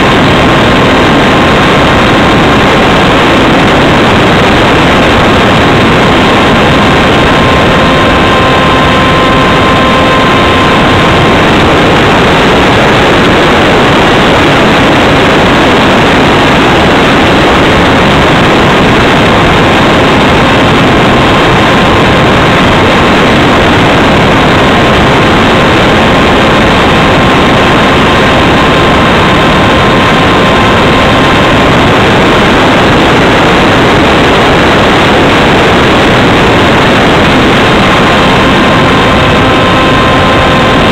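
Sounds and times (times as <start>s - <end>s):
electric motor whine: 0.0s - 40.9s
wind rushing over microphone: 0.0s - 40.9s.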